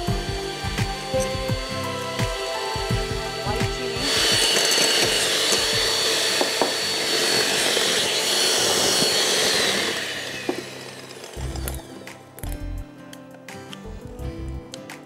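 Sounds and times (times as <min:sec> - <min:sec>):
electric hand mixer whirring: 0:00.0 - 0:12.6.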